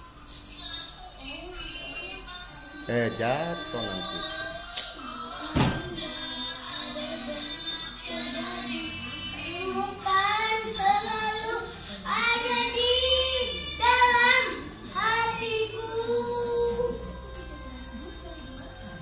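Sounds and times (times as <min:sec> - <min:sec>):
child singing slow melody: 0:03.8 - 0:19.0.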